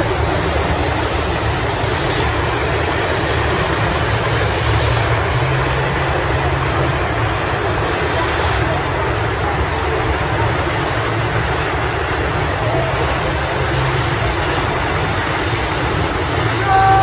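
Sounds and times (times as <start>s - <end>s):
water falling and splashing: 0.0s - 17.0s.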